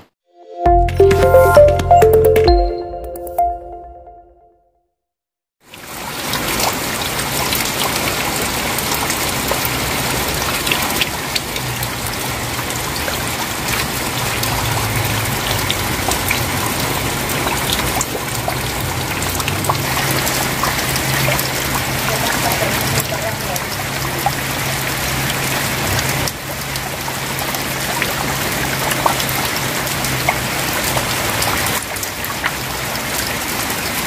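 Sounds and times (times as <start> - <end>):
rain pattering: 5.6 - 34.0
water dripping off roofs: 5.6 - 34.0.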